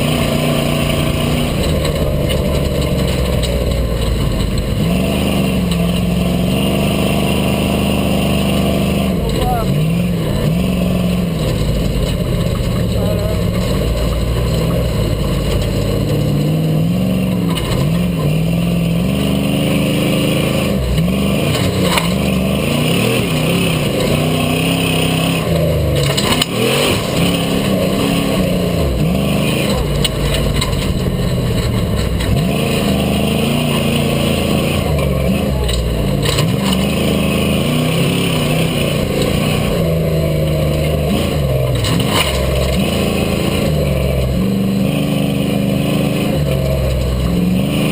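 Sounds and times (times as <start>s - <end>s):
buggy engine revving: 0.0s - 47.9s.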